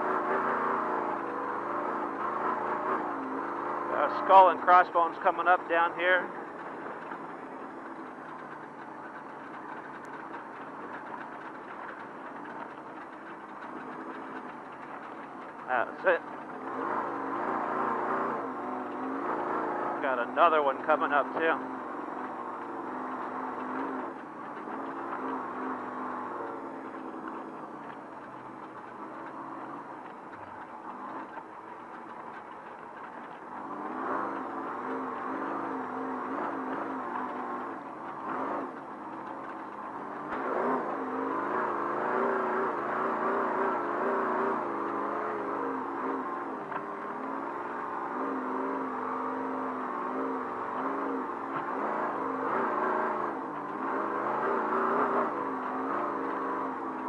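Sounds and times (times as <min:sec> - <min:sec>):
road and wind noise: 0:00.0 - 0:57.0
truck engine running at low revs: 0:00.0 - 0:57.0
truck rumbling over rocky ground: 0:00.0 - 0:57.0.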